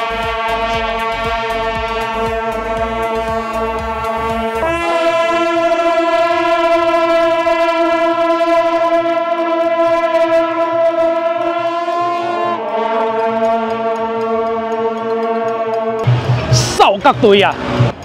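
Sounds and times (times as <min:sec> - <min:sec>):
reedy wind instrument notes: 0:00.0 - 0:18.0.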